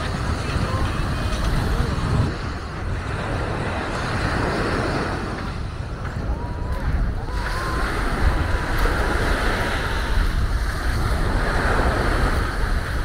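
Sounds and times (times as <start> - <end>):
small waves washing on shore: 0.0 - 13.0
wind buffeting microphone: 0.0 - 13.0.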